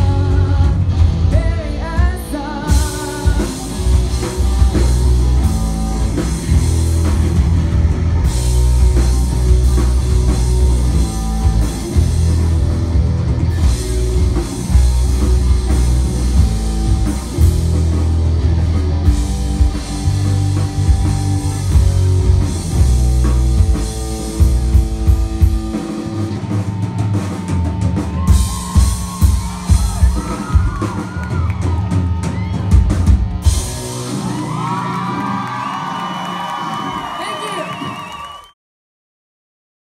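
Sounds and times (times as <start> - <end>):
drum kit with kick drum: 0.0 - 34.4
distorted electric guitars: 0.0 - 35.6
bass guitar: 0.0 - 37.4.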